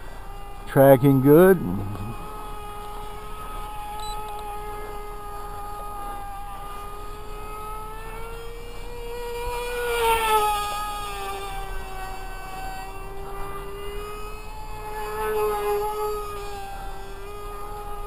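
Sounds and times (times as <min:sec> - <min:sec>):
model plane engine whine: 0:00.0 - 0:18.0.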